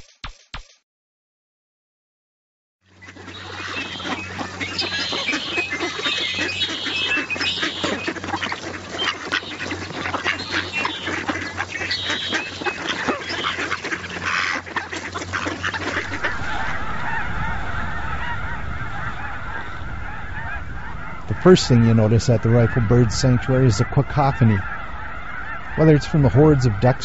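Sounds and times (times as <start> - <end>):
ducks quacking: 2.9 - 27.0
flock of geese honking: 2.9 - 27.0.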